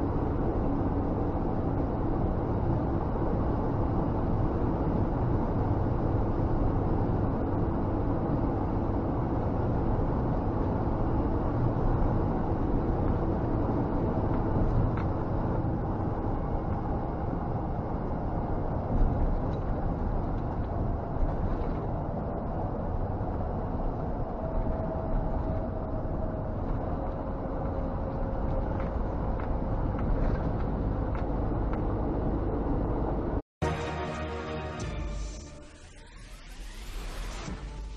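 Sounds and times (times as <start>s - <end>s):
road noise: 0.0s - 37.9s.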